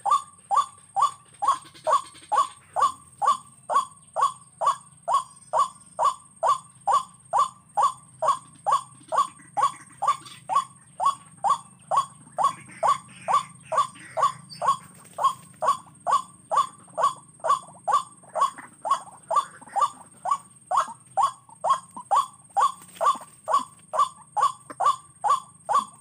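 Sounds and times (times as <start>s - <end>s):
waterhen kwak calls: 0.0s - 26.0s.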